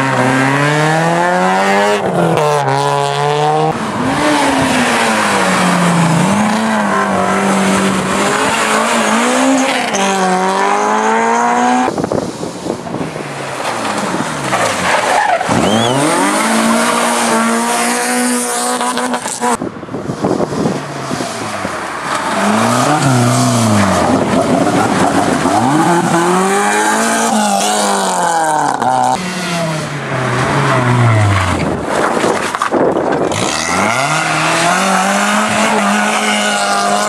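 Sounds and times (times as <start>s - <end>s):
rally car engines at full throttle: 0.0s - 37.0s.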